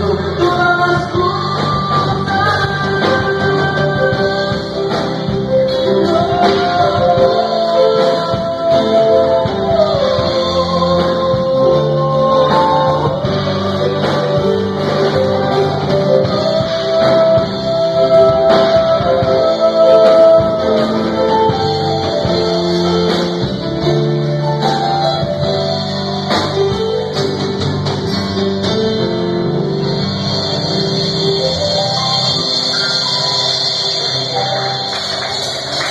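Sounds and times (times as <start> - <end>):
band music with guitar: 0.0 - 35.9.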